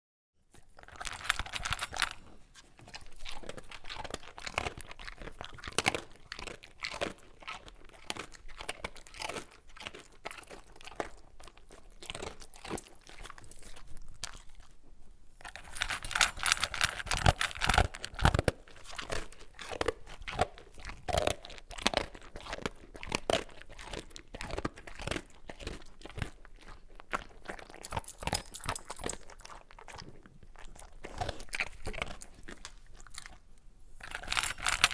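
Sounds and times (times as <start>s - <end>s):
dog crunching dry kibble: 0.5s - 14.8s, 15.4s - 34.9s.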